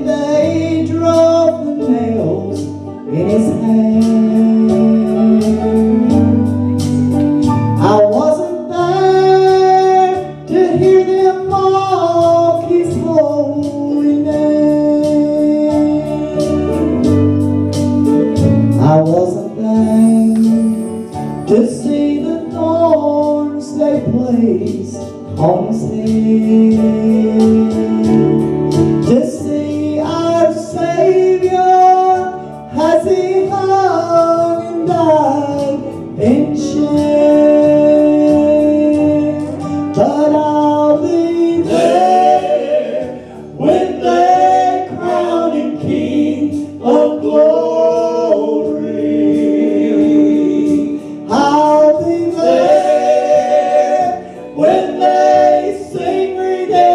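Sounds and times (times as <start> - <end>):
gospel singing: 0.0 - 56.9.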